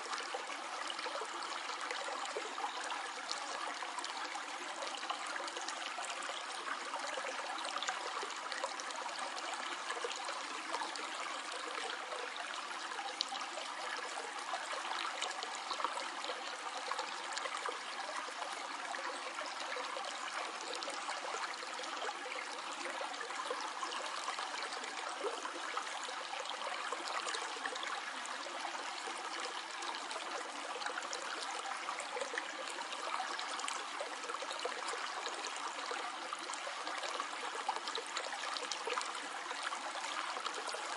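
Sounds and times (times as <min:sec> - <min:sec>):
small splashes and trickles: 0:00.0 - 0:40.9.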